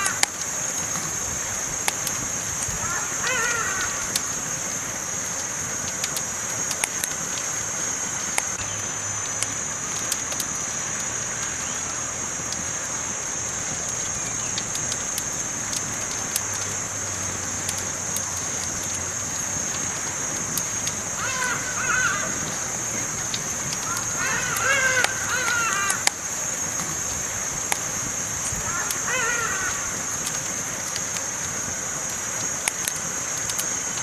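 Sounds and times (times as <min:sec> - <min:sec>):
campfire crackling and popping: 0:00.0 - 0:34.0
steady high hiss: 0:00.0 - 0:34.0.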